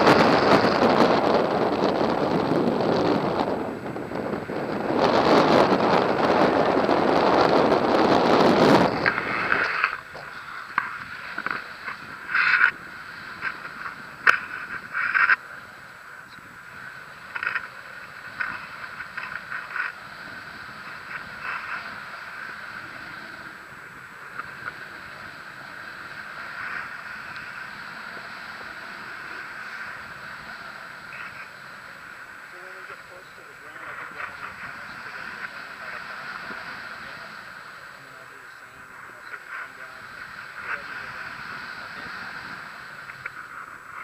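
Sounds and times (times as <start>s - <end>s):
wind on microphone: 0.0s - 44.0s.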